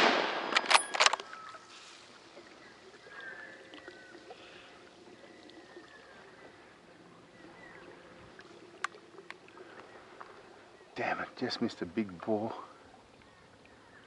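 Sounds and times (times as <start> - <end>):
water lapping: 1.3 - 14.0.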